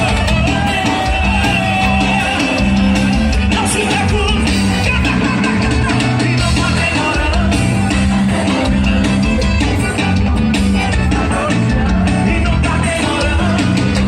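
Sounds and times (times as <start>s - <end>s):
live band playing: 0.0s - 14.0s
voices singing: 0.0s - 14.0s.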